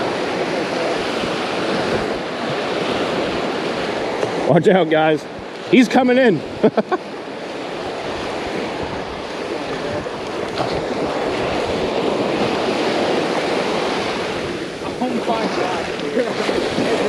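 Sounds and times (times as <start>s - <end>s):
ocean surf washing up beach: 0.0s - 17.0s.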